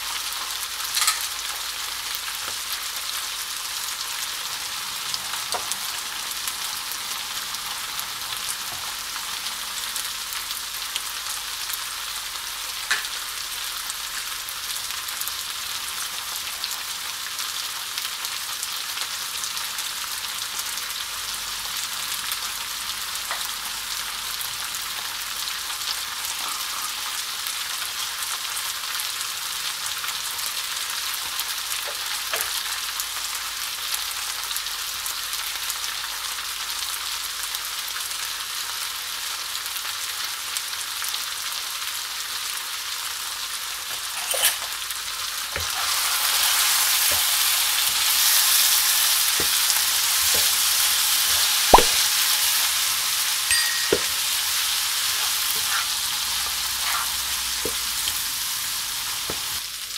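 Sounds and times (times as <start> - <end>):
chicken frying in oil: 0.0 - 59.9.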